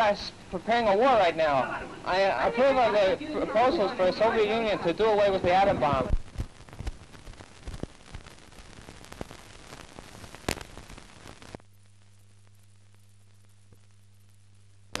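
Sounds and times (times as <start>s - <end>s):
faint low hum: 0.0s - 15.0s
film hiss with crackles and pops: 0.0s - 15.0s.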